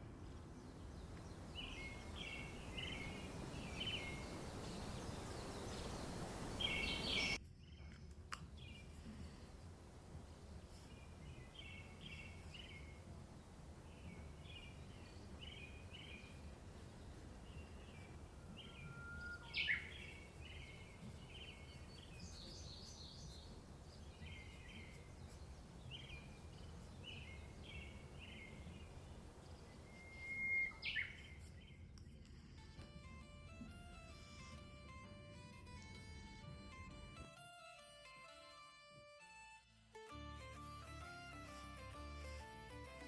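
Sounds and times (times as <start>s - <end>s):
small birds chirping: 0.0s - 37.0s
low background hum: 0.0s - 38.2s.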